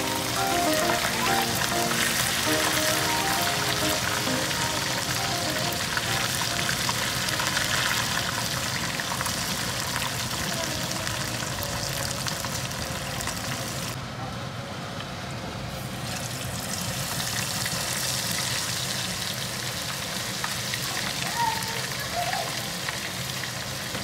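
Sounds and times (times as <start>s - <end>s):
fish deep-frying in oil: 0.0s - 14.0s, 15.7s - 24.0s.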